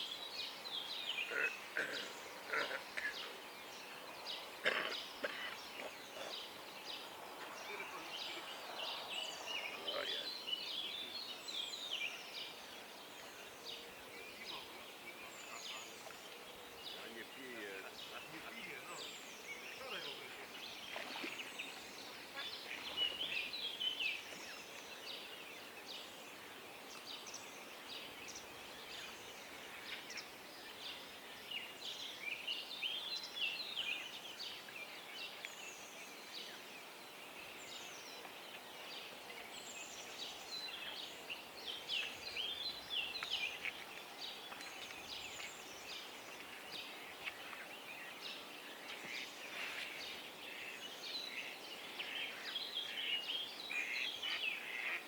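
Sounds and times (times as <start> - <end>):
faint outdoor hiss: 0.0 - 55.0
songbirds singing: 0.0 - 55.0.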